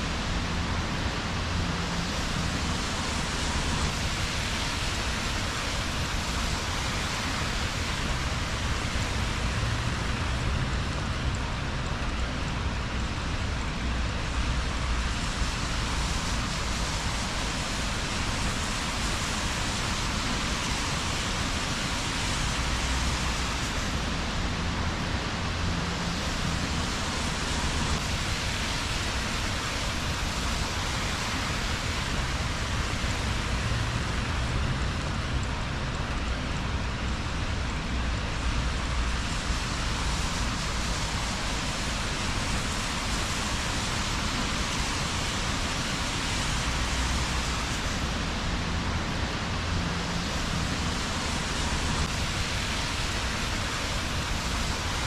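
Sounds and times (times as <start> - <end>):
rain falling on streets: 0.0 - 55.0.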